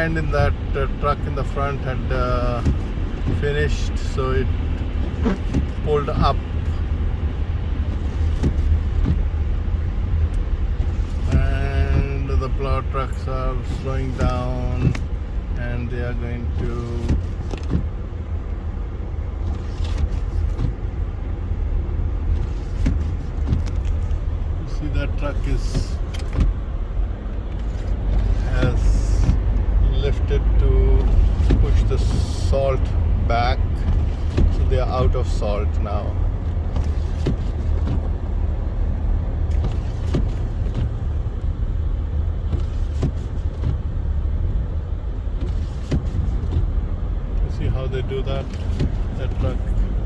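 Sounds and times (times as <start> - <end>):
car engine and tyre rumble: 0.0 - 50.0.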